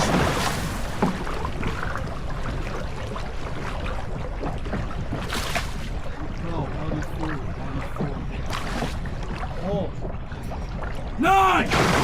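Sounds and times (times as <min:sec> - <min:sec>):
water splash: 0:00.0 - 0:06.2, 0:07.0 - 0:12.0
water rushing: 0:00.0 - 0:12.0.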